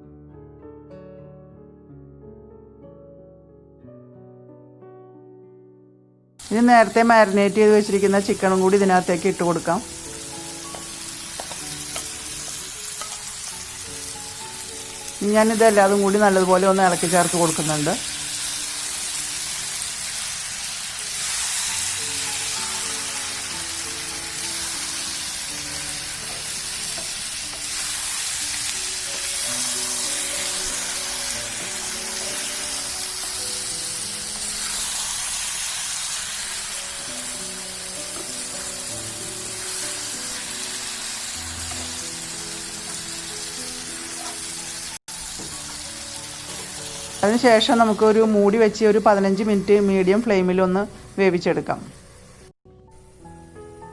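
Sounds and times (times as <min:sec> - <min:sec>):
instrumental background music: 0:00.0 - 0:53.9
chicken sizzling in a pan: 0:06.4 - 0:52.6.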